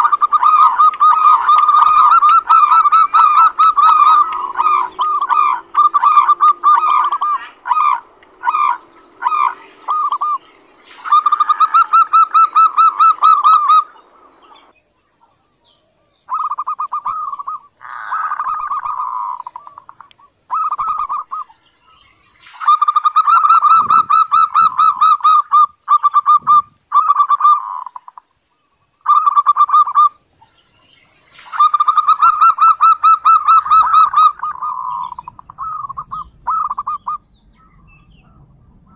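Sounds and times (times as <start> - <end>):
dove rattling call: 0.0 - 15.4, 16.2 - 38.9.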